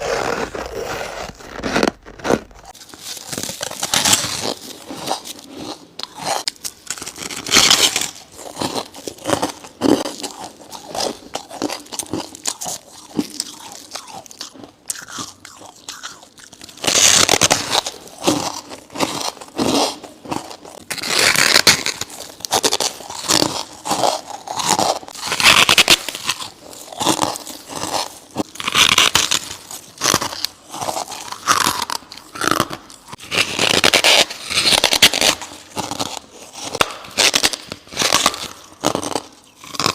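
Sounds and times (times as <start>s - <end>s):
crunching bites of frost: 0.0s - 39.9s.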